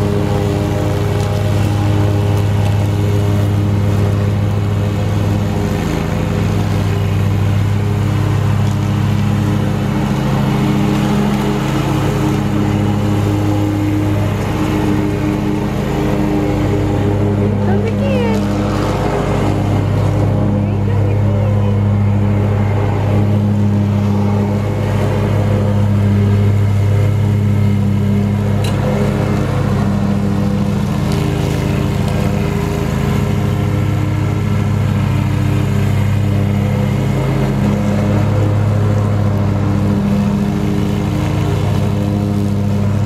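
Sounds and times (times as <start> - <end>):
mower engine running: 0.0 - 43.0.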